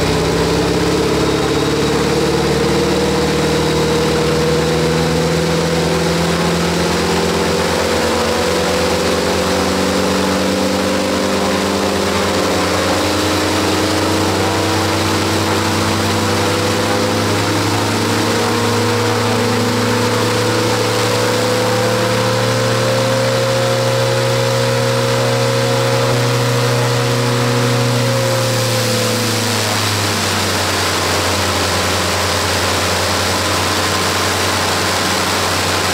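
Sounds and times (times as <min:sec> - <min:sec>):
truck engine running steadily: 0:00.0 - 0:35.9.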